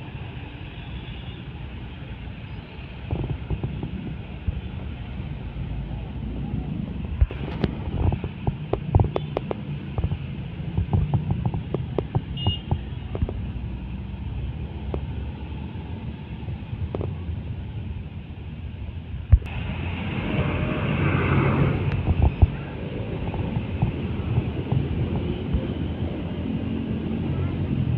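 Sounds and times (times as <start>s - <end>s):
truck engines idling and rumbling: 0.0s - 27.9s.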